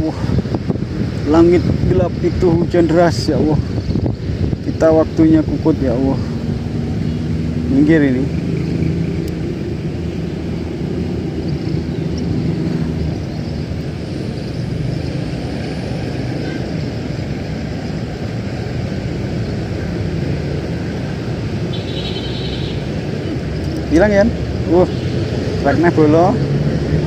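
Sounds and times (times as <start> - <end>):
low engine hum: 0.0 - 27.0
road traffic rumble: 0.0 - 27.0.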